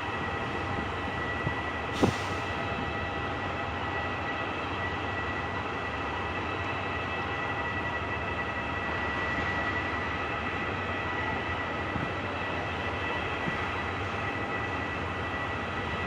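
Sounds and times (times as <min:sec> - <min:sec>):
diesel train running: 0:00.0 - 0:16.0.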